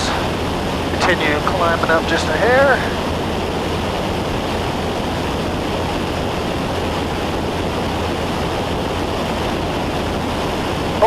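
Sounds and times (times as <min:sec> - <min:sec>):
propeller plane engine drone: 0:00.0 - 0:11.0
wind rush: 0:00.0 - 0:11.0.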